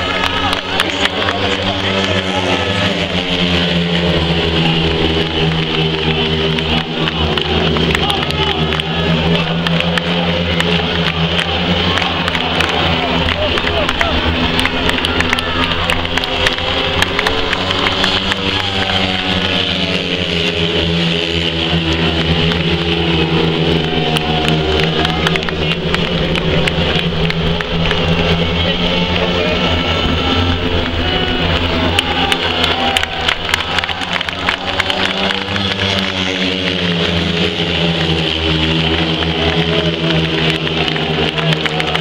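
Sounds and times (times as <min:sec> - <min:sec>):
motorcycles racing: 0:00.0 - 0:42.0
spectators clapping: 0:00.0 - 0:42.0.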